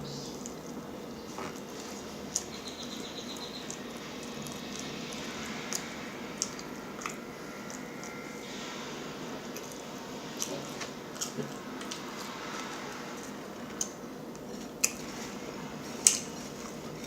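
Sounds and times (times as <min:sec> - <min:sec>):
person chewing food: 0:00.3 - 0:17.0.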